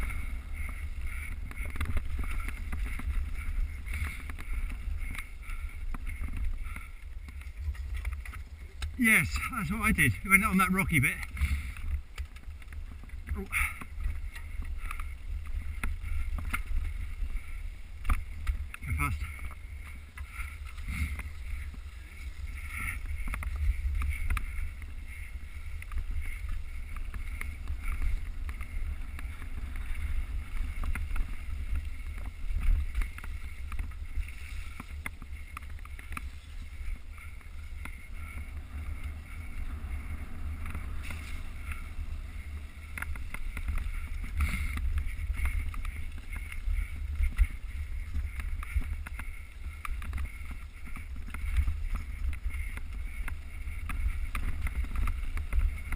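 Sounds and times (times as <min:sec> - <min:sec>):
bike clicking and rattling: 0:00.0 - 0:55.9
wind and ground rumble: 0:00.0 - 0:55.9.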